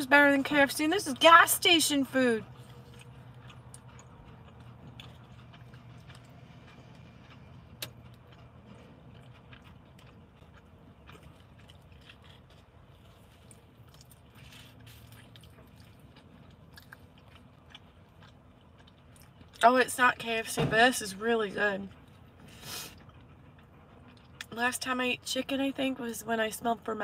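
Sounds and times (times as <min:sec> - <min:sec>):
low steady hum: 0:00.0 - 0:27.0
chewing fried chicken: 0:00.2 - 0:20.4, 0:21.3 - 0:27.0.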